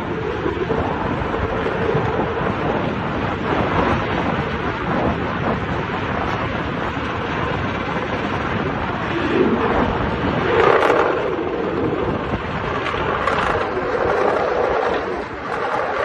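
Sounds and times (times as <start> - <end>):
many motorcycle engines running: 0.0 - 16.0.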